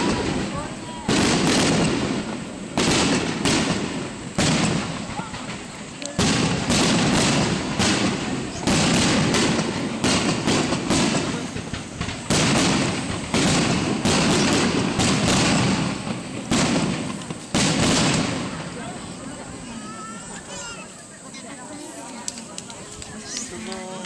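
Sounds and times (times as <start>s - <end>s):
fireworks bursting with loud bangs: 0.0s - 24.0s.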